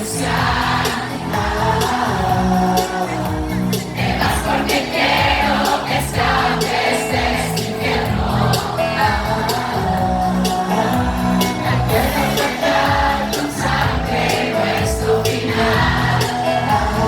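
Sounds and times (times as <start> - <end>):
crowd singing along: 0.0 - 17.0
live pop band playing a ballad: 0.0 - 17.0.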